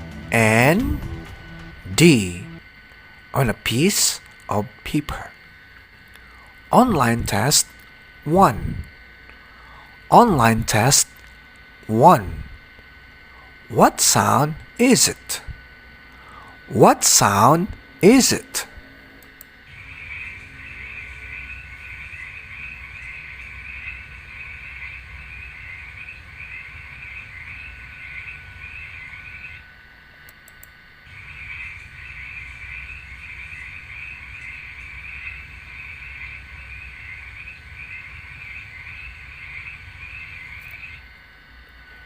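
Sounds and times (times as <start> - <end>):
frogs croaking in a trill: 0.3 - 42.0.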